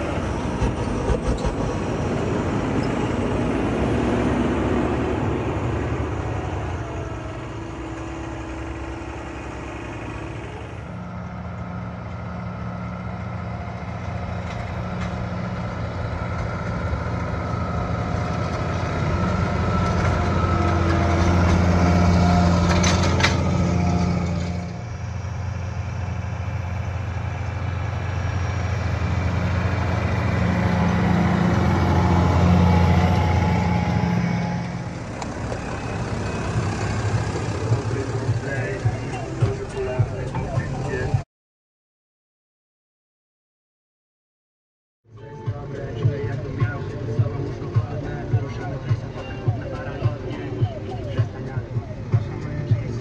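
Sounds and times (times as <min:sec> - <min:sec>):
tractor diesel engine running: 0:00.0 - 0:41.2, 0:45.1 - 0:53.0.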